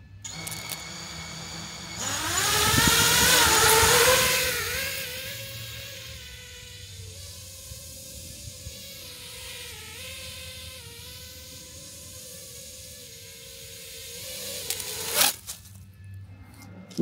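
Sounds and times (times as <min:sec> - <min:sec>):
quadcopter motors whining: 0:00.0 - 0:15.5.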